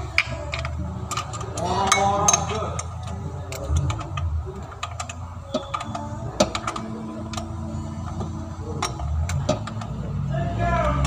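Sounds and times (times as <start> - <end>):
wrench clicking on metal: 0.2 - 10.0.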